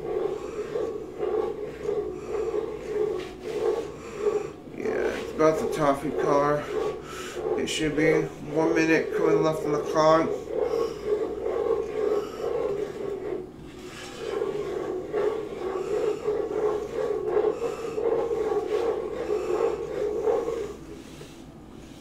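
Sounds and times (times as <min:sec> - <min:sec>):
wooden spoon scraping a saucepan: 0:00.0 - 0:22.0.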